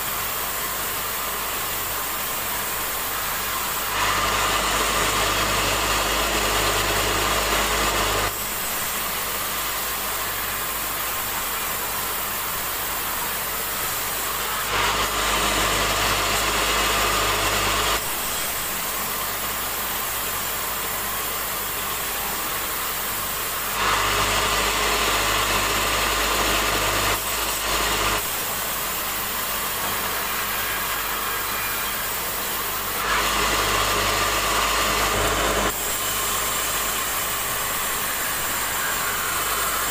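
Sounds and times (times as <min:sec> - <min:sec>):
band saw cutting timber: 0:00.0 - 0:39.9.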